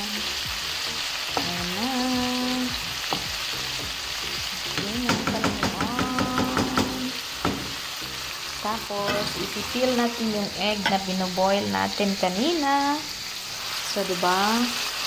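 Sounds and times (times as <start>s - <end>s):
chicken livers sizzling in a pan: 0.0s - 15.0s.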